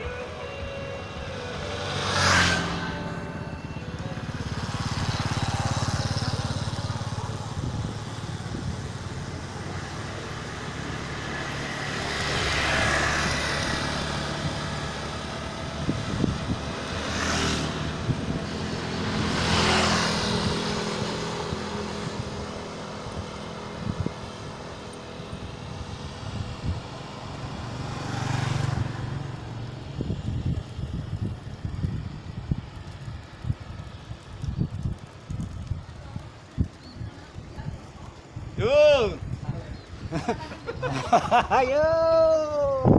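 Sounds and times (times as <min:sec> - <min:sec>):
motor vehicles passing: 0:00.0 - 0:42.9
road noise while cycling: 0:00.0 - 0:42.9.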